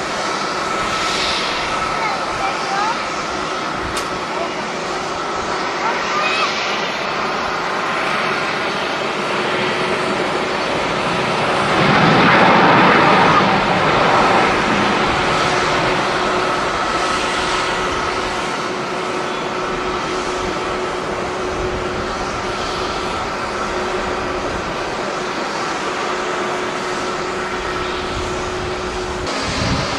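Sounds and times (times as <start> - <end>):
jet engine rushing: 0.0 - 29.9.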